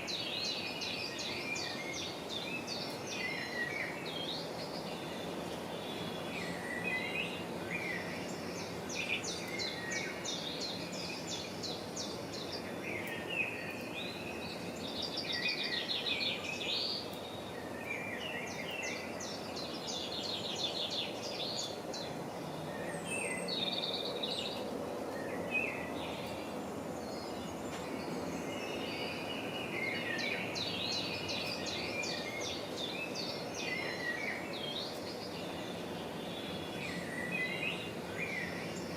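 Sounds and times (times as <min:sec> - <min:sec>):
songbirds trilling and chirping: 0:00.0 - 0:38.9
steady background hiss: 0:00.0 - 0:38.9.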